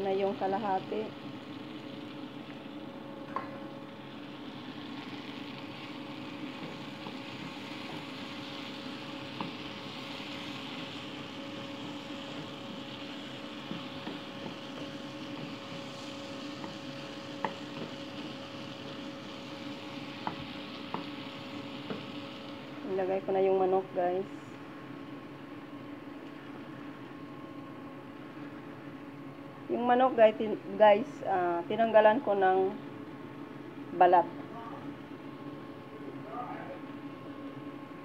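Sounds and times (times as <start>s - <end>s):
vegetables sizzling in a frying pan: 0.0s - 34.4s.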